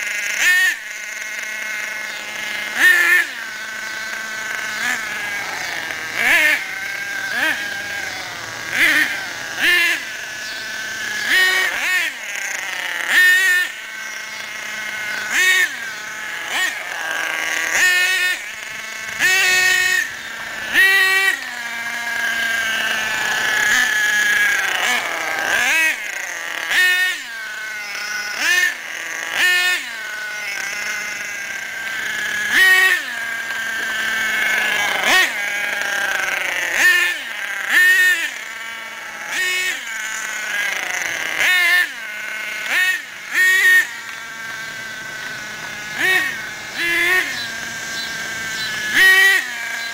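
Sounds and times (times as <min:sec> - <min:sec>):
model car engine revving: 0:00.0 - 0:49.9.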